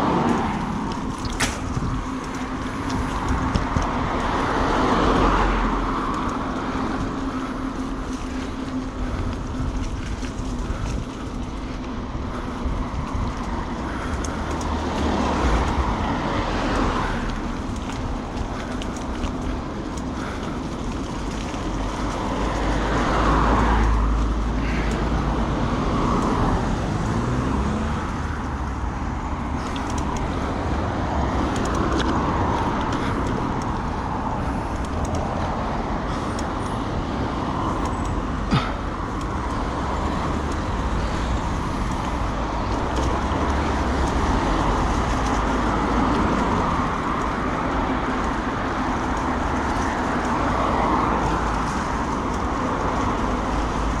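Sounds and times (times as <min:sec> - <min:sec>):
road traffic noise: 0:00.0 - 0:54.0
wind rumbling on microphone: 0:00.0 - 0:54.0.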